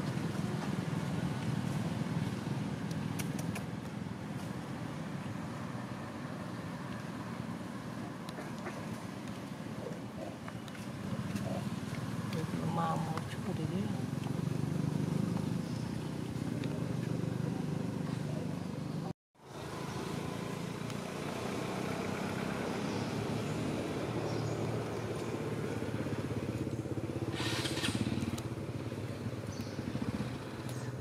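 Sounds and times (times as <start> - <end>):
motorcycle engines droning: 0.0 - 31.0
outdoor ambience: 0.0 - 31.0.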